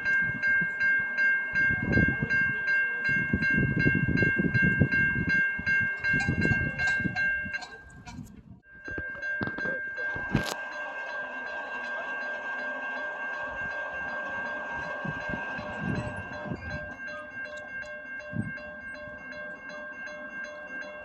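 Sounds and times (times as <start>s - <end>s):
level-crossing bell ringing: 0.0s - 7.9s, 8.7s - 21.0s.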